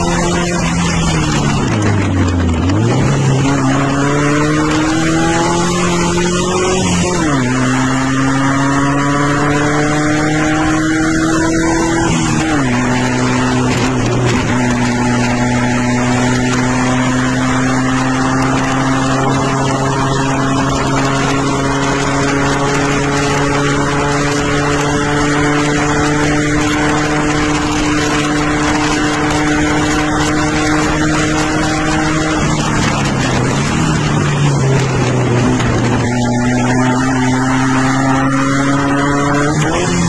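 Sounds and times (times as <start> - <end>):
sports car engine running hard: 0.0 - 40.0
wind and road noise: 0.0 - 40.0.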